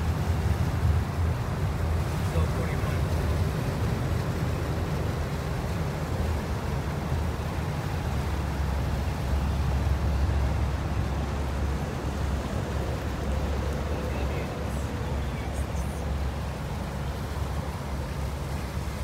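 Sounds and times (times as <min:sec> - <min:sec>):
motorboat engine rumble: 0:00.0 - 0:19.0
water wash: 0:00.0 - 0:19.0.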